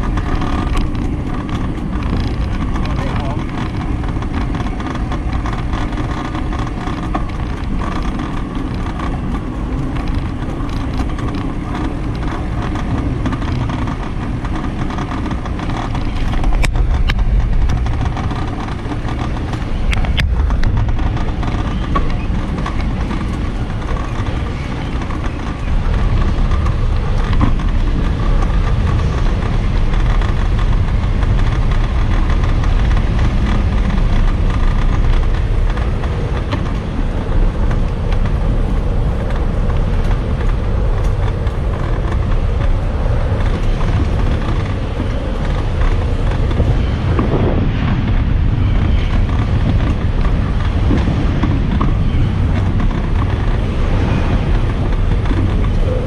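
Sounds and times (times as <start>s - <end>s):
sharp clicks: 0.0s - 56.0s
wind rumble on microphone: 0.0s - 56.0s.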